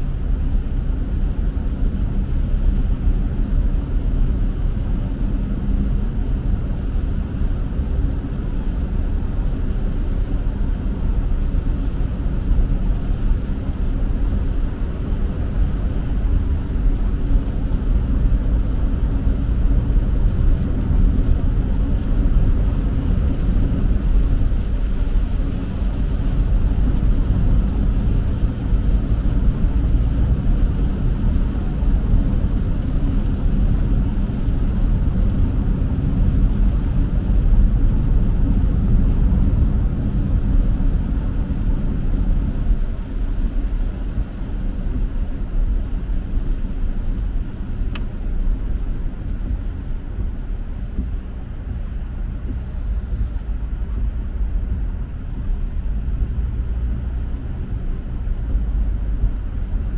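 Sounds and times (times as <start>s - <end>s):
car engine: 0.0s - 59.9s
tyres on wet pavement: 0.1s - 59.9s.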